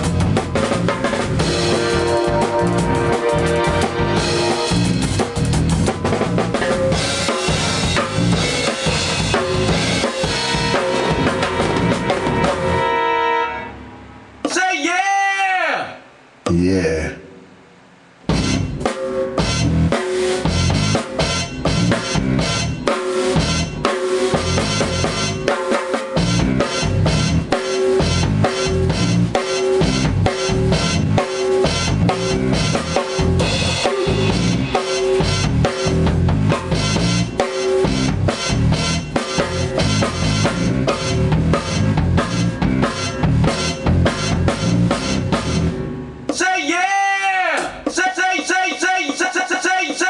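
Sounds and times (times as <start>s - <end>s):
acoustic drum kit groove: 0.0s - 13.0s, 18.2s - 46.5s, 47.6s - 50.0s.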